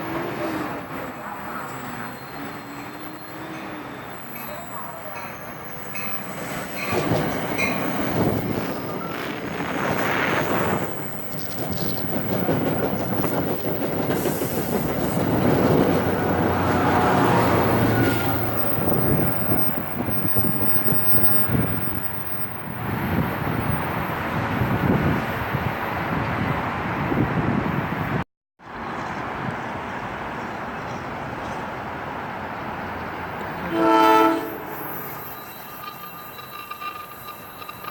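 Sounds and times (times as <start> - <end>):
train wheels rumbling on track: 0.0 - 28.0, 29.0 - 37.9.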